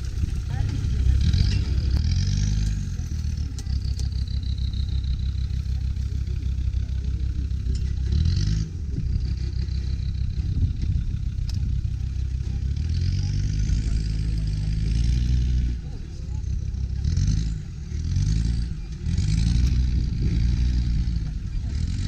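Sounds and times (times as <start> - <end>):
diesel engine revving under load: 0.0 - 22.0.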